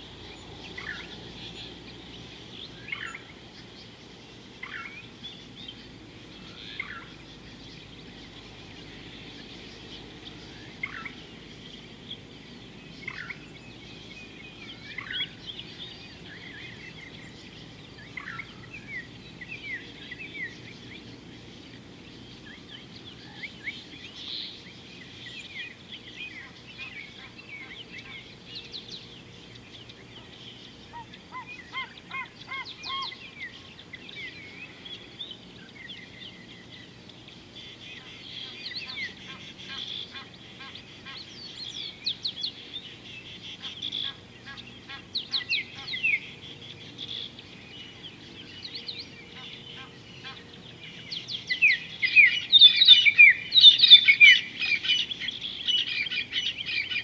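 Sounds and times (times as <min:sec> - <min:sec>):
birds chirping and whistling: 0:00.0 - 0:57.0.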